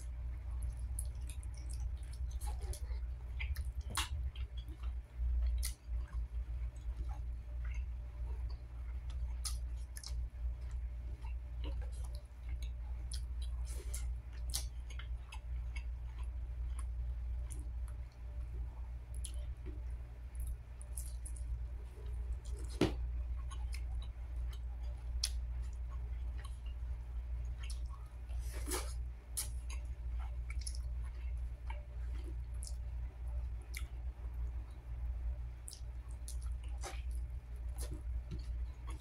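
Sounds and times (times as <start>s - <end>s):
low hum: 0.0s - 39.0s
person chewing with wet clicks: 0.0s - 39.0s.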